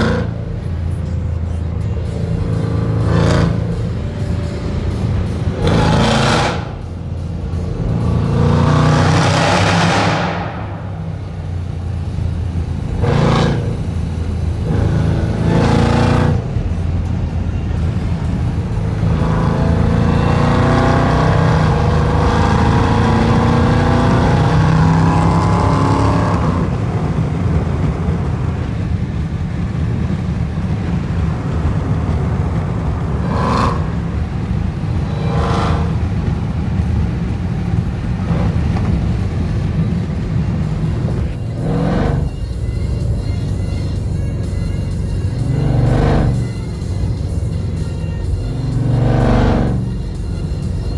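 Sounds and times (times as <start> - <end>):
car engine rumbling and revving: 0.0 - 50.9
supercharger whine: 0.0 - 50.9.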